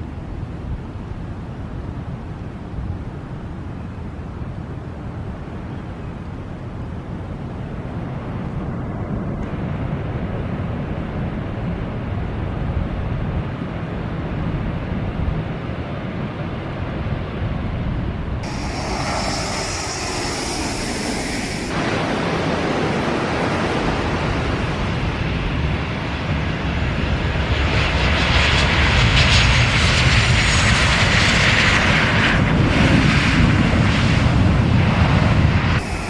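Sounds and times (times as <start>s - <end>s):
jet engines passing by: 5.4s - 36.0s.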